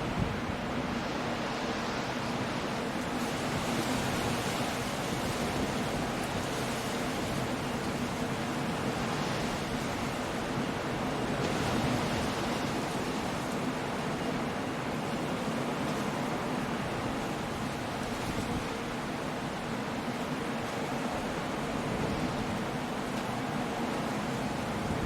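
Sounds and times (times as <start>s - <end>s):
surf: 0.0s - 25.0s
wind: 0.0s - 25.0s.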